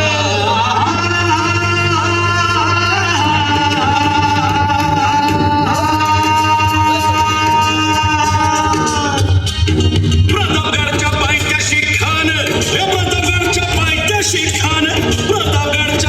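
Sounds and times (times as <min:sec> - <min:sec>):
instrumental accompaniment: 0:00.0 - 0:16.0.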